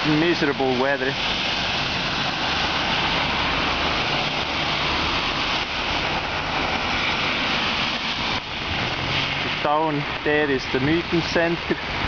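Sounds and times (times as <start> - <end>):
low engine hum: 0.0 - 12.0
tyres hissing on wet road: 0.0 - 12.0.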